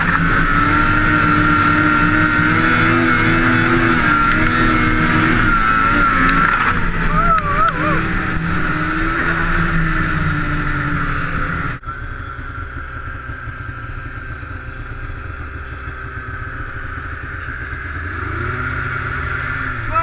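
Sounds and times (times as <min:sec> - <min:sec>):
distant snowmobile engine: 0:00.0 - 0:20.0
quieter engine drone: 0:00.0 - 0:20.0.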